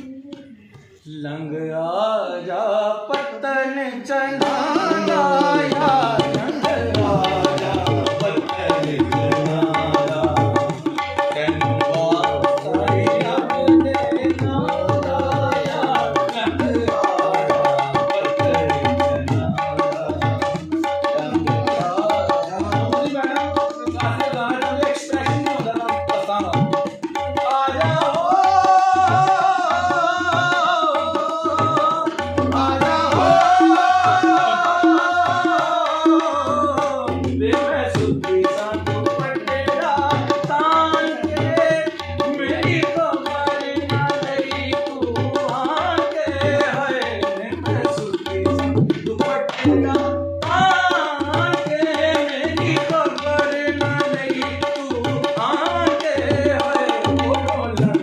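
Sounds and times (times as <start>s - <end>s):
man singing: 0.0s - 58.0s
harmonium: 4.3s - 58.0s
hand drum beat: 4.5s - 58.0s.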